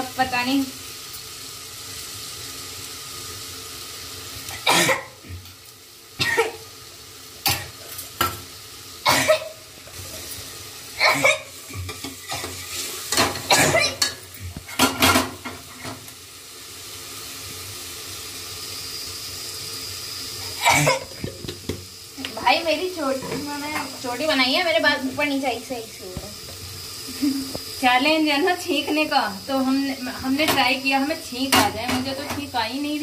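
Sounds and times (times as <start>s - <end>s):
chillies sizzling in a pan: 0.0s - 33.0s.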